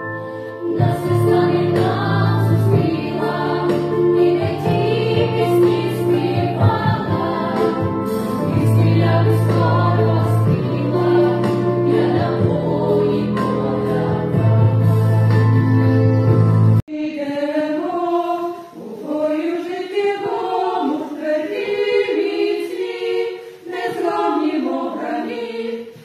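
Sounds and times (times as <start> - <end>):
young vocal ensemble singing: 0.2 - 15.9, 16.9 - 26.0.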